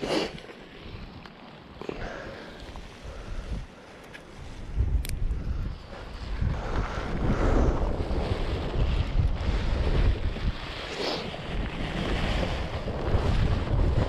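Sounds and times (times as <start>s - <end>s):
wind buffeting microphone: 0.8s - 14.0s.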